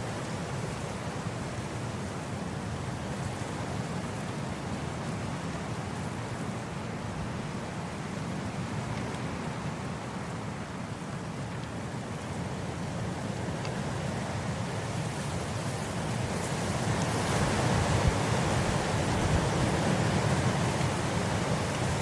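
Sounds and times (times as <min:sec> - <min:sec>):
wind blowing across grass: 0:00.0 - 0:22.0.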